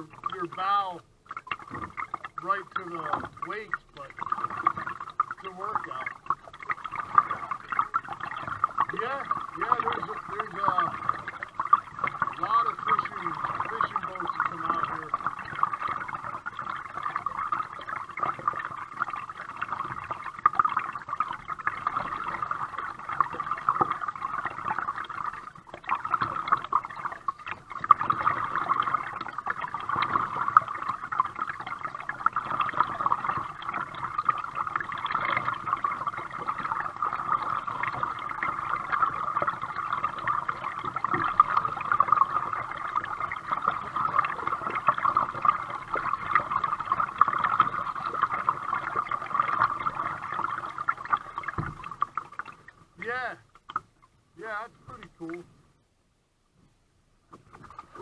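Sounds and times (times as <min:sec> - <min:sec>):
water lapping against kayak: 0:00.0 - 0:55.8, 0:56.7 - 0:58.0.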